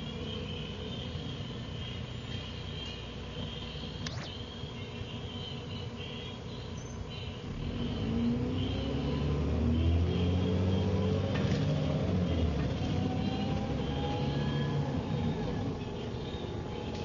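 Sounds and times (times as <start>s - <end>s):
bus diesel engine droning: 0.0s - 17.0s
drive axle whine: 0.0s - 17.0s.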